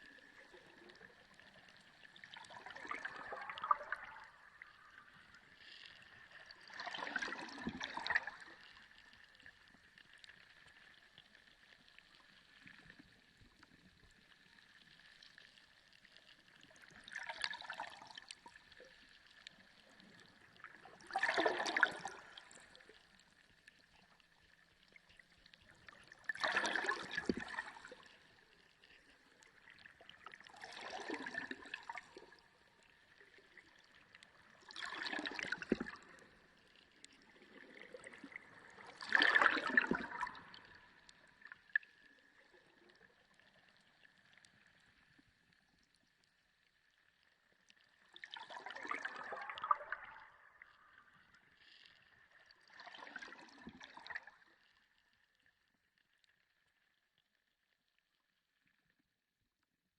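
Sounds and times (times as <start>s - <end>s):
underwater water surges: 0.0s - 46.0s, 47.2s - 55.4s.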